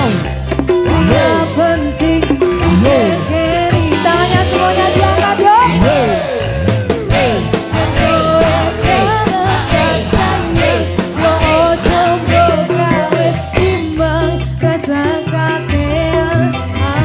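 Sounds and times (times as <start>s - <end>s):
steady drum beat: 0.0s - 1.6s, 2.2s - 14.9s
bass: 0.0s - 17.0s
bending lead melody: 0.0s - 17.0s.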